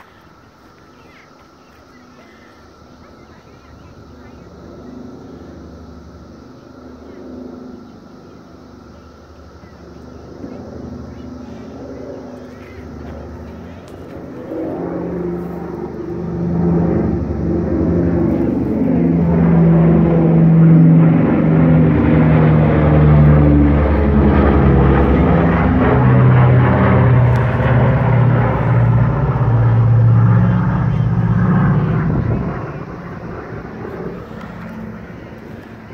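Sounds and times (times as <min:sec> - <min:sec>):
airplane flying low overhead: 0:00.0 - 0:35.9.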